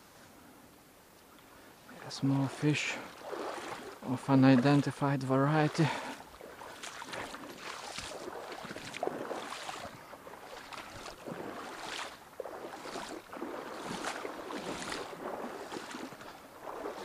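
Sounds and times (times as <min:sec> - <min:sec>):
water swishing around legs: 0:01.8 - 0:17.0.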